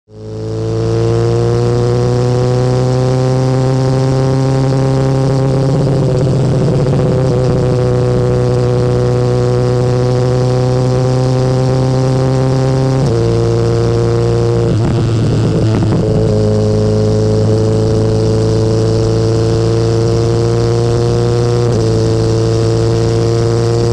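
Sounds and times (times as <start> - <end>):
motorcycle engine running: 0.1 - 23.9.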